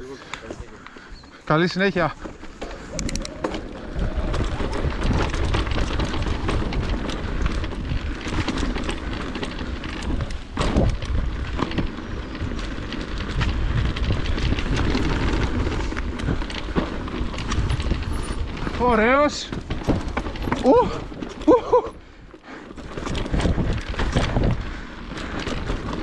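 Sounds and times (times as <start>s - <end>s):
bike rattling: 0.0s - 26.0s
tyres crunching on loose rock: 1.8s - 26.0s
wind rumbling on microphone: 1.9s - 26.0s.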